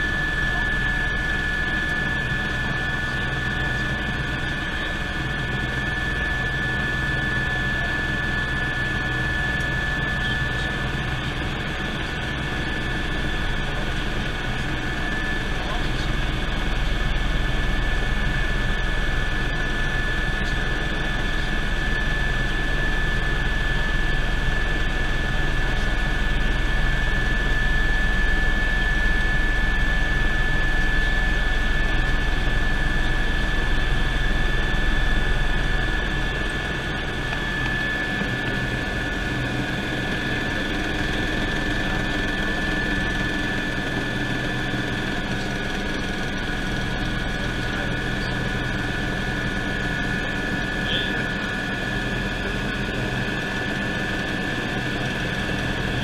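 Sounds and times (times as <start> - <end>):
helicopter high-pitched whine: 0.0 - 56.0
rotor and engine rumble: 0.0 - 56.0.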